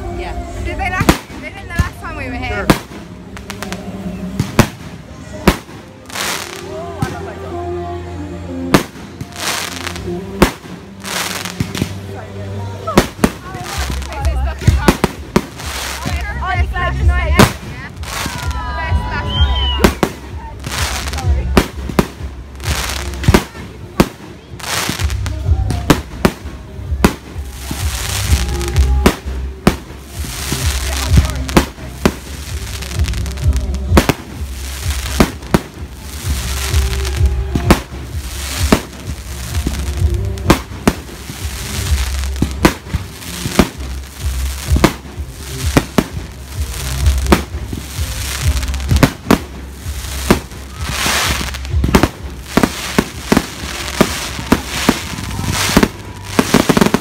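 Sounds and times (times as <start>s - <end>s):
fireworks crackling and hiss: 0.0s - 57.0s
fireworks bangs: 0.7s - 7.4s, 8.6s - 12.2s, 12.8s - 57.0s.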